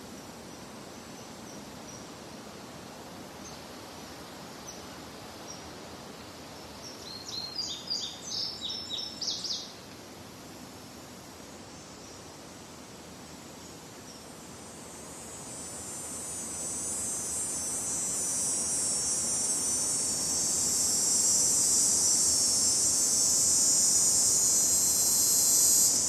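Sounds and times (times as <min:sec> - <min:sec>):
cicada chorus: 0:00.0 - 0:26.0.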